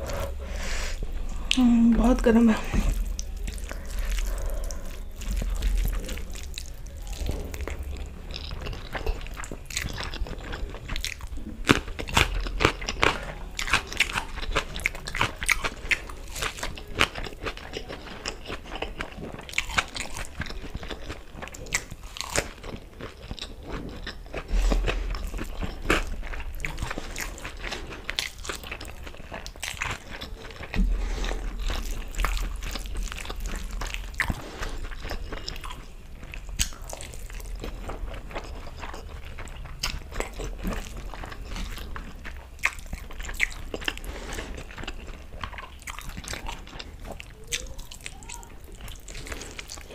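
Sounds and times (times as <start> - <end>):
biting and chewing food: 0.0 - 49.9.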